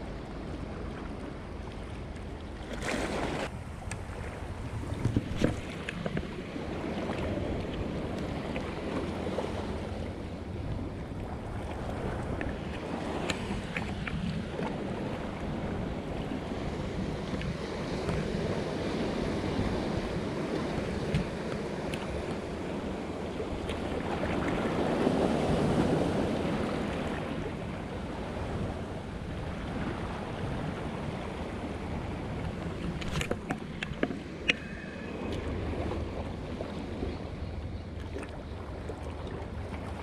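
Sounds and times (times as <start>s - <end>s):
waves lapping at shore: 0.0s - 40.0s
wind on microphone: 2.8s - 40.0s.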